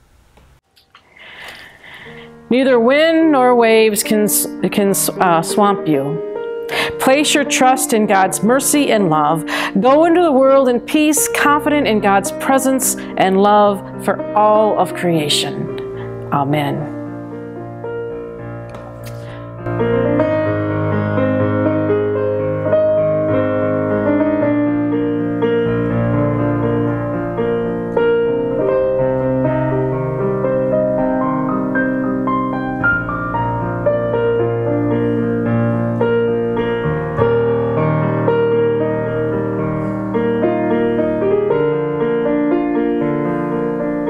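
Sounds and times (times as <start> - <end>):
slow piano chords: 0.0 - 44.0.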